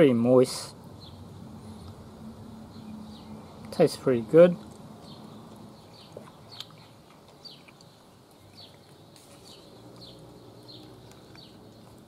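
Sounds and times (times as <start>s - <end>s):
faint background noise: 0.0s - 12.0s
bird chirping: 0.9s - 12.0s.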